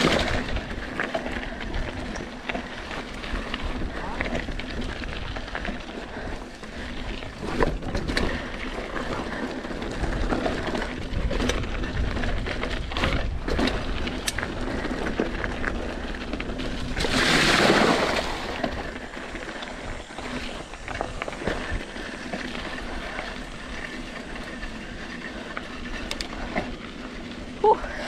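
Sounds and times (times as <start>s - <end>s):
bike clicking and rattling: 0.0s - 28.0s
bike tyres on gravel trail: 0.0s - 28.0s.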